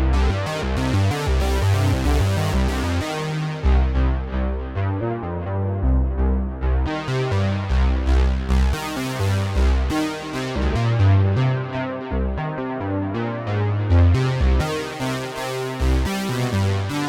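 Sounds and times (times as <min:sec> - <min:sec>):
synthesizer pulsing bass line: 0:00.0 - 0:17.0.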